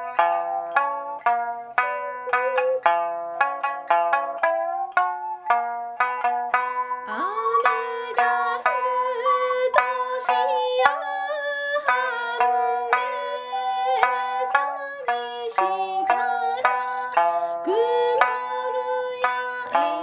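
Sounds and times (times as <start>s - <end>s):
ocarina melody: 0.0s - 20.0s
plucked lute notes: 0.0s - 20.0s.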